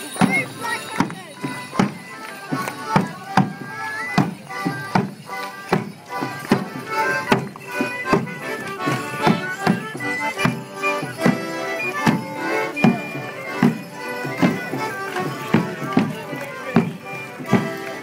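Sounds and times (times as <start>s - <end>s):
folk band fiddle and accordion: 0.0s - 18.0s.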